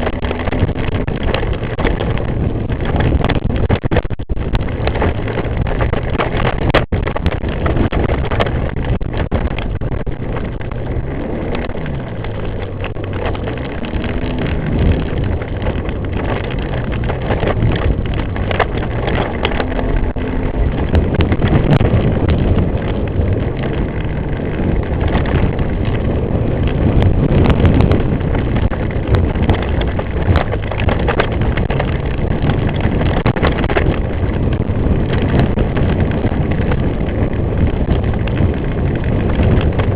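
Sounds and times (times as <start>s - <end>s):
atv engine running: 0.0s - 39.9s
vehicle travelling over trail: 0.0s - 39.9s.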